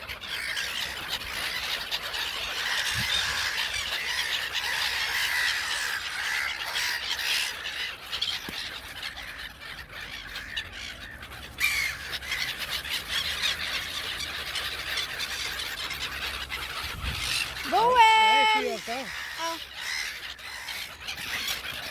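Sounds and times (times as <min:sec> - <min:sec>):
gulls squawking: 0:00.0 - 0:21.9.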